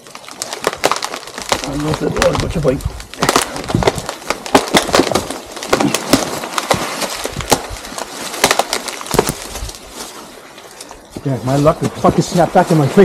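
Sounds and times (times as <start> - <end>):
dry branches snapping: 0.0 - 12.8
brush rustling: 0.0 - 13.0.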